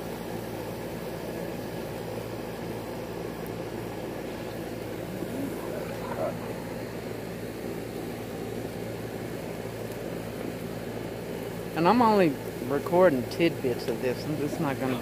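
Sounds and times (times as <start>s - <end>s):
low background hum and rumble: 0.0s - 15.0s.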